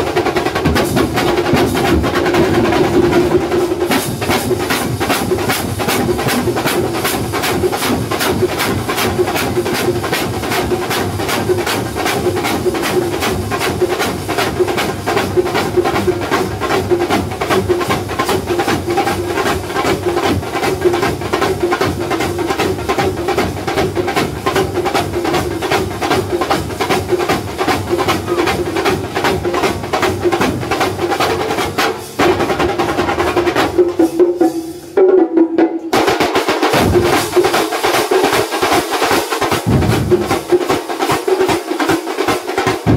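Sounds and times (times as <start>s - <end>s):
percussion band drumming: 0.0s - 42.9s.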